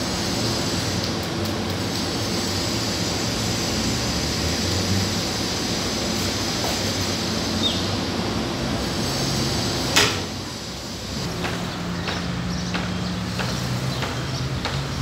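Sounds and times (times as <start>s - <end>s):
gas oven roaring: 0.0s - 15.0s.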